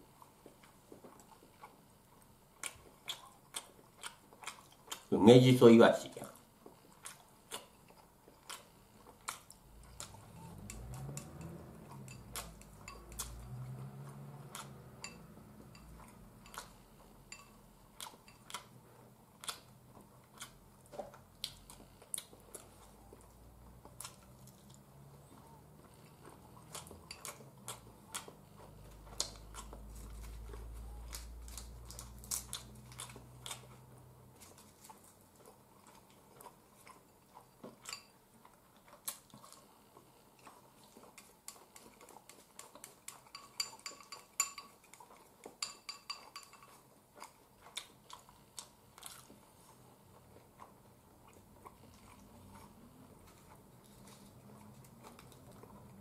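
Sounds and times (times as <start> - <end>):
quiet chewing: 0.0 - 5.2, 6.1 - 56.0.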